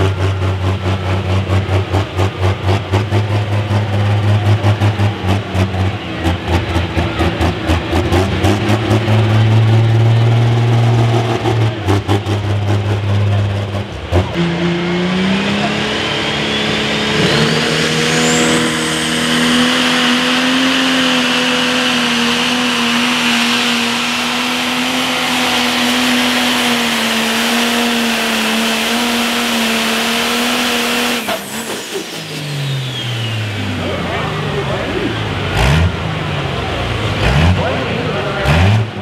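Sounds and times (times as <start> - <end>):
diesel engine at full throttle: 0.0 - 39.0.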